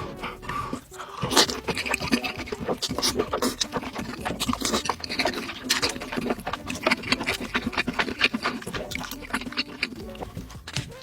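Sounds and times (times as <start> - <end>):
chewing food crunches: 0.0 - 11.0.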